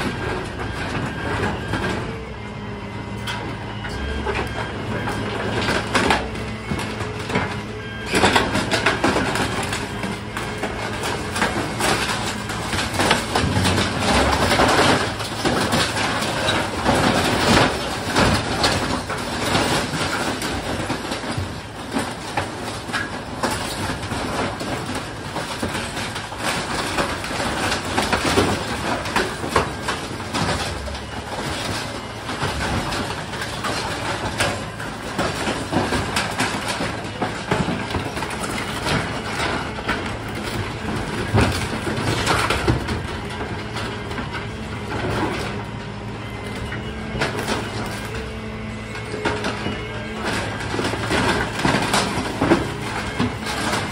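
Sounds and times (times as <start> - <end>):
compactor crushing debris: 0.0 - 53.9.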